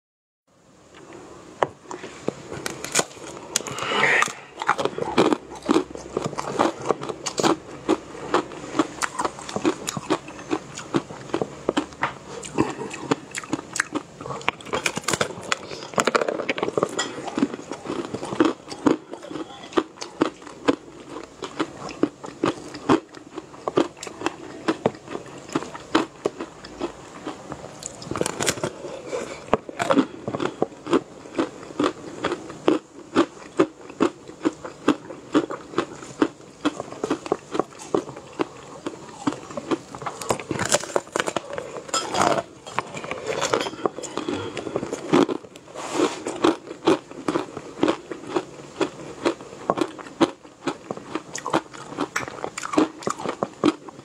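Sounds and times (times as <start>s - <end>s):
crunchy chewing of hard food: 1.8s - 54.0s.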